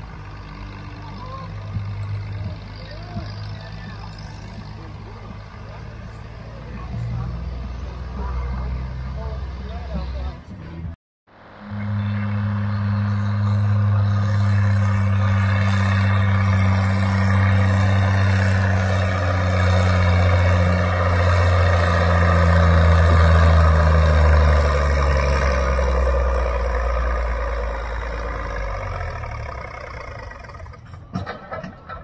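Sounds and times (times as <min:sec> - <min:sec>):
tractor engine lugging at full throttle: 0:00.0 - 0:32.0.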